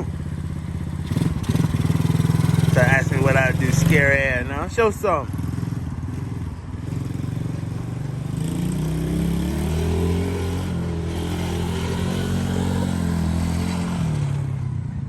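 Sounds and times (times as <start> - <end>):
atv engine revving: 0.0 - 14.9.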